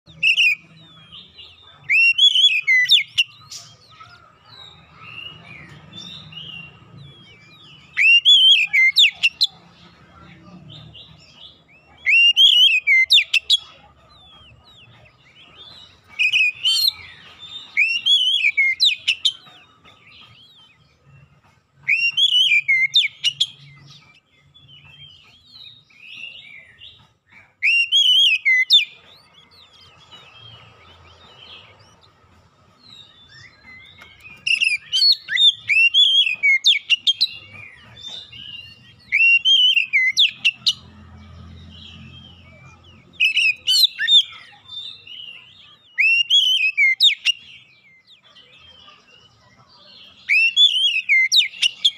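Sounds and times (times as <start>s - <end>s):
bird singing whistled notes: 0.1s - 4.0s, 4.6s - 9.6s, 11.0s - 32.1s, 32.8s - 40.8s, 41.5s - 48.8s, 49.8s - 51.9s.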